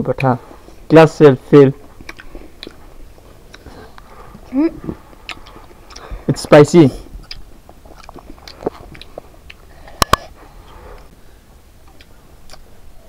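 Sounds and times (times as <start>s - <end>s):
children chewing pineapple: 0.2s - 13.0s.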